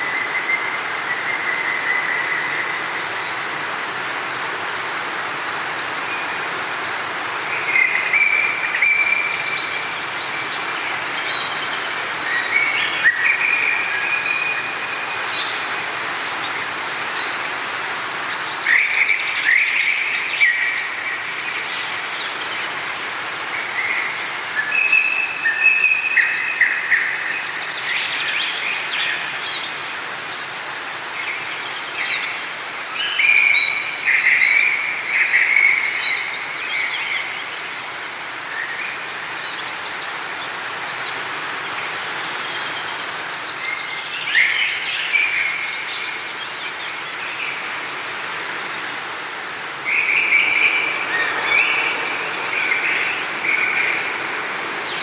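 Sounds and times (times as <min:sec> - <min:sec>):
flowing water: 0:00.0 - 0:55.0
songbirds trilling and chirping: 0:00.0 - 0:55.0.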